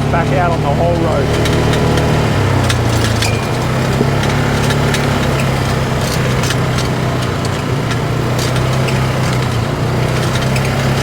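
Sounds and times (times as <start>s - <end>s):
off-road vehicle engine running: 0.0s - 11.0s
sharp clicks and knocks: 0.0s - 11.0s
tyres on dirt trail: 0.0s - 11.0s.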